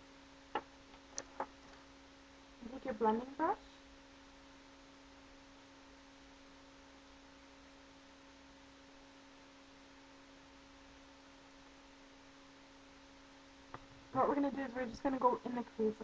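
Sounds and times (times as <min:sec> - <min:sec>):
faint electrical hum and hiss: 0:00.0 - 0:16.0.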